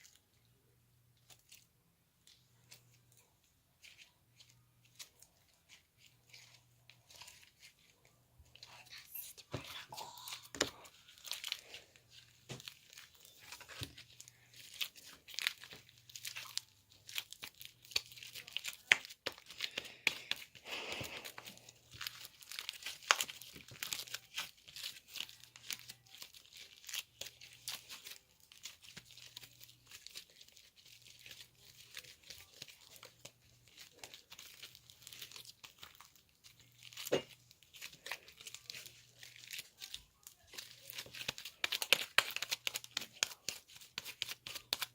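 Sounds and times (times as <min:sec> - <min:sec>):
slime kneaded by hand crackling: 0:00.0 - 0:44.9.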